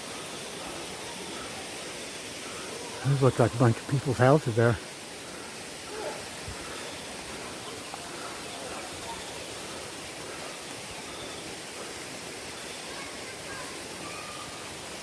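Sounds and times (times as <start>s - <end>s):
faint distant voices: 0.0s - 15.0s
waterfall and river rushing: 0.0s - 15.0s.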